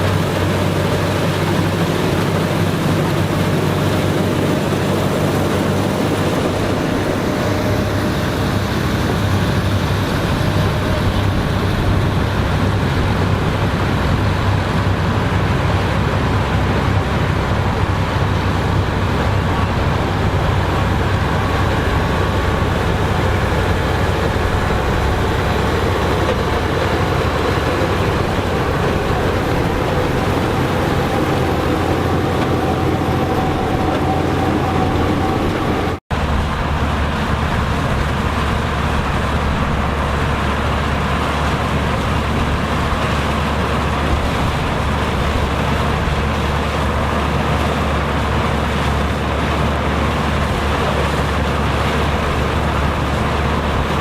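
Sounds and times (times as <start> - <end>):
farm machinery engine running: 0.0 - 54.0.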